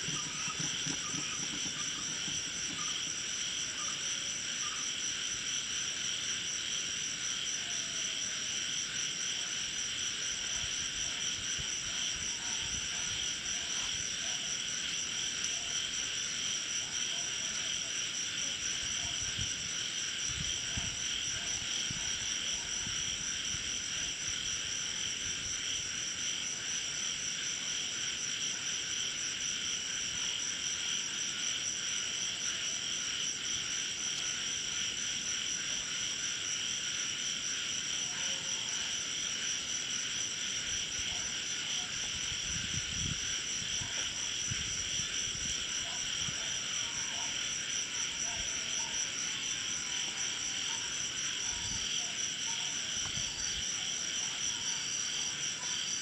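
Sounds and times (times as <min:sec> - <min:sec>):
crickets and night insects trilling: 0:00.0 - 0:56.0.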